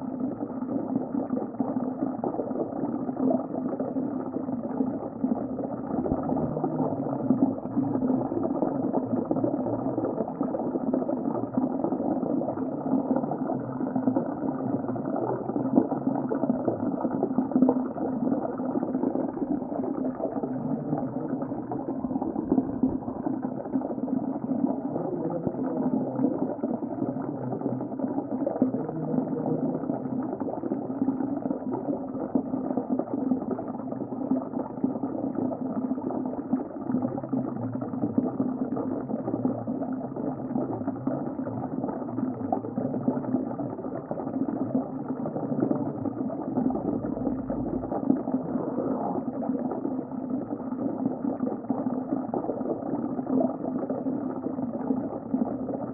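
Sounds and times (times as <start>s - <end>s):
underwater bubbling rushing water: 0.0s - 55.9s.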